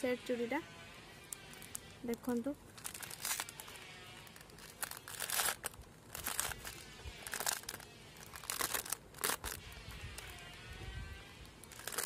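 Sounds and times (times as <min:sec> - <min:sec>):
plastic wrapping crinkling: 0:01.2 - 0:12.0.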